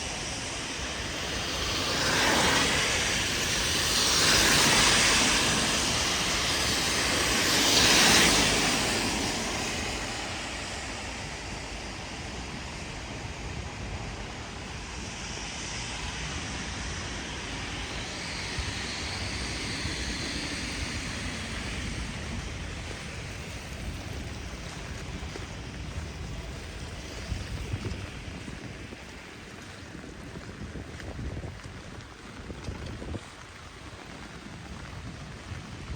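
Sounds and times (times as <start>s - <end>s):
heavy rain on street: 0.0s - 14.8s, 16.0s - 35.9s
vehicle hissing on wet road: 0.0s - 30.9s.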